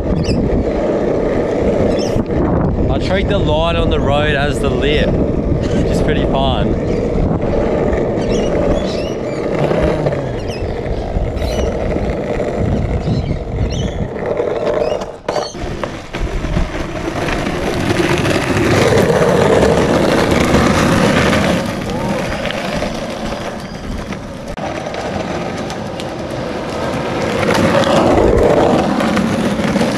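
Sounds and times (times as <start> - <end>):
skateboard wheels rolling on asphalt: 0.0 - 29.9.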